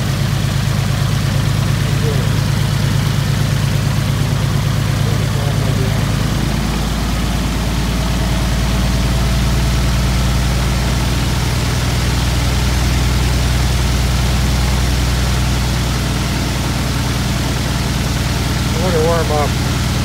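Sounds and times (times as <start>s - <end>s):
aircraft engine running: 0.0s - 20.0s.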